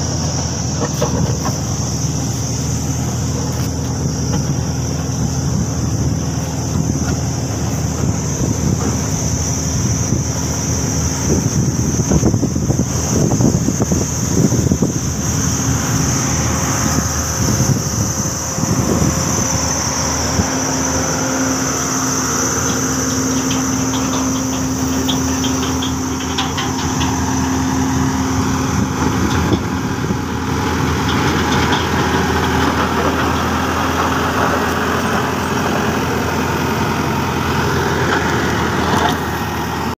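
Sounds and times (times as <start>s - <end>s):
diesel engine running: 0.0s - 39.9s
high engine whine: 0.0s - 39.9s.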